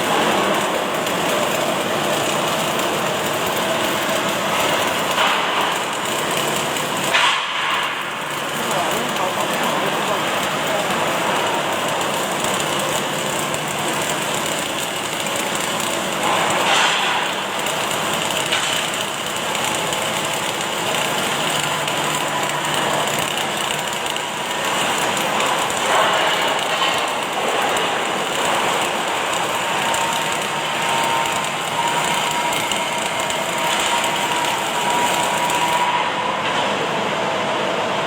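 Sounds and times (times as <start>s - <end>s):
welding arc crackling hiss: 0.0s - 36.1s.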